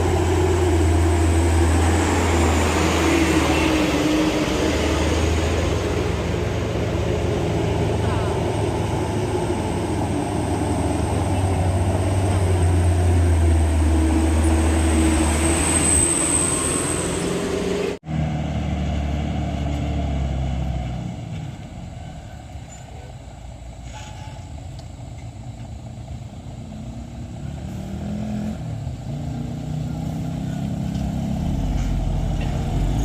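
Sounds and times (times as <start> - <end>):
diesel truck engine under load: 0.0 - 33.0
traffic noise: 0.0 - 33.0.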